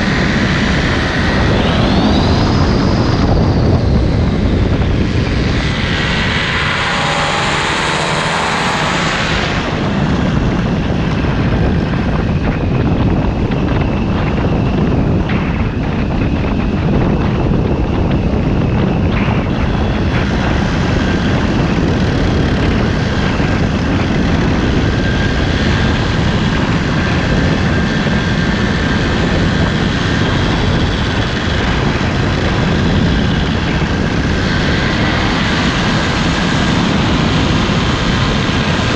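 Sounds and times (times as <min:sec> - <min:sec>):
paramotor engine and propeller drone: 0:00.0 - 0:38.9.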